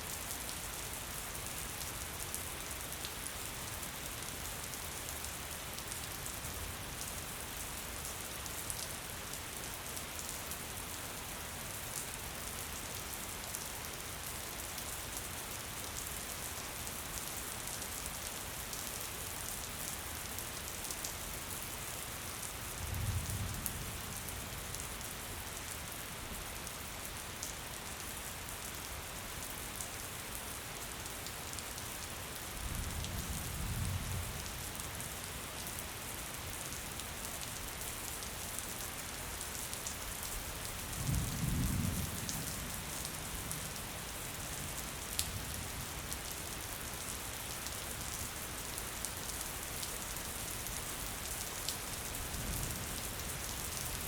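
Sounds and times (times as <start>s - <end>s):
gentle rain falling: 0.0s - 54.0s.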